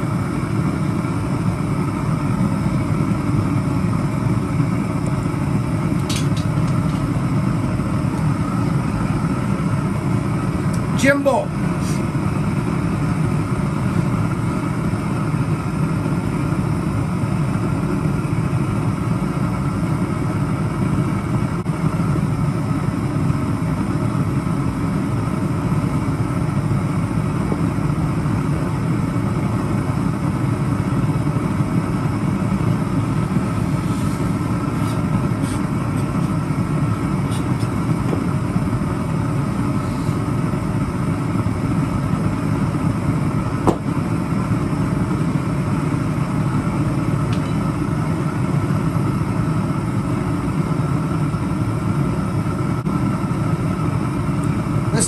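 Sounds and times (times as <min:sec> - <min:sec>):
propane burner flame rushing: 0:00.0 - 0:55.0.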